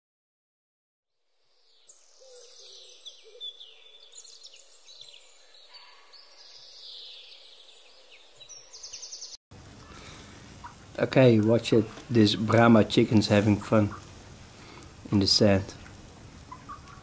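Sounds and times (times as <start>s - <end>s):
faint background noise: 1.3s - 17.0s
songbirds chirping and trilling: 1.4s - 17.0s.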